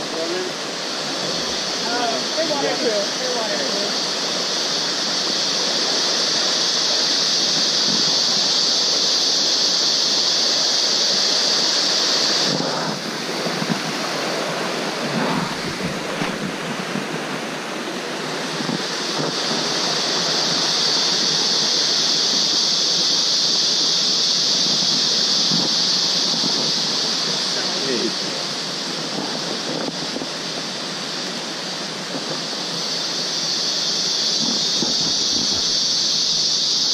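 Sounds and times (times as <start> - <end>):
forest stream rushing: 0.0 - 36.9
high-pitched hiss: 0.0 - 36.9.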